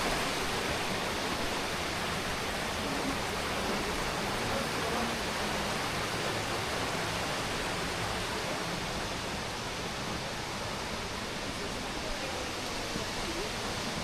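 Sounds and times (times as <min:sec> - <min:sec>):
white water rushing: 0:00.0 - 0:14.0.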